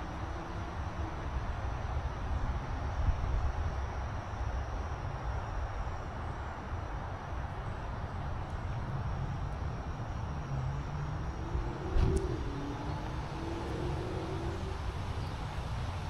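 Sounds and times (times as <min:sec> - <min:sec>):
faint high steady whine: 0:00.0 - 0:16.0
low rumble and hiss: 0:00.0 - 0:16.0.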